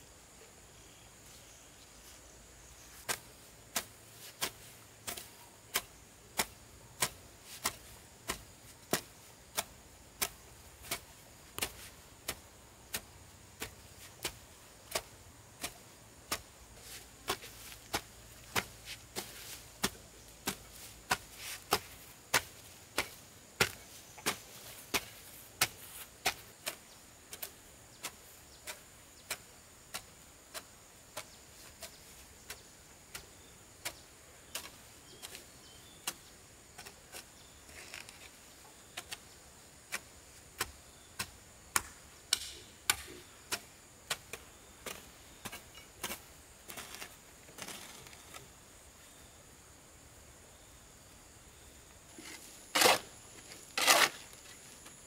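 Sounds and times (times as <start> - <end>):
hoe chopping into soil: 3.0 - 39.2, 39.9 - 48.4, 52.2 - 54.6.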